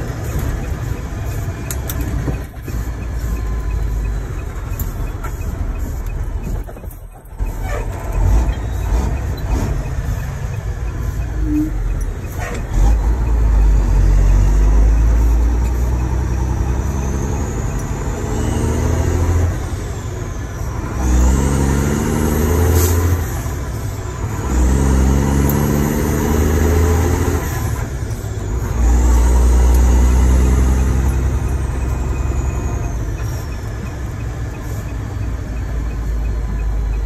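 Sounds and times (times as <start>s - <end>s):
high transmission whine: 0.0s - 37.0s
truck diesel engine accelerating: 0.0s - 37.0s.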